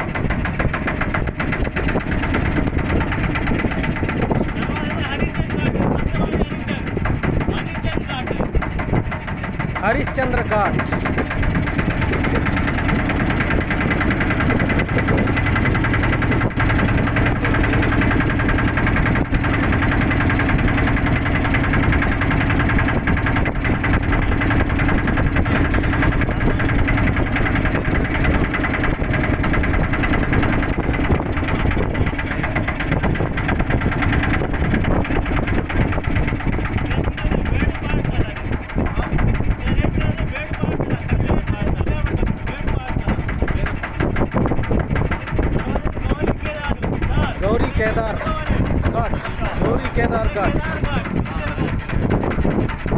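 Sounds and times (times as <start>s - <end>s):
motorboat engine running: 0.0s - 52.9s.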